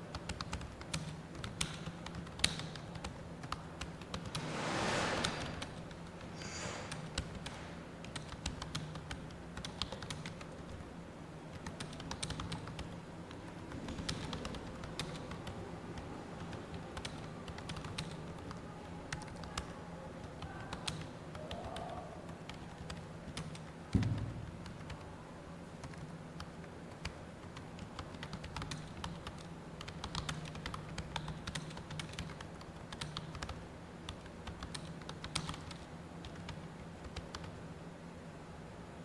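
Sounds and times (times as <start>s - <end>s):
low steady hum: 0.0s - 39.0s
fast keyboard typing: 0.1s - 4.5s, 6.9s - 10.8s, 11.5s - 25.1s, 25.8s - 37.6s.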